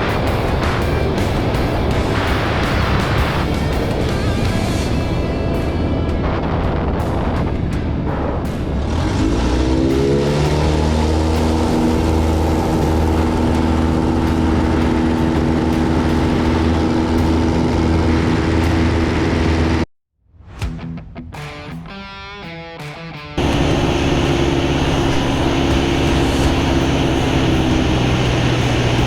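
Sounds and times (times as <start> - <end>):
guitar music: 0.0 - 19.8, 20.8 - 29.0
light aircraft engine and propeller: 0.0 - 19.8, 23.4 - 29.0.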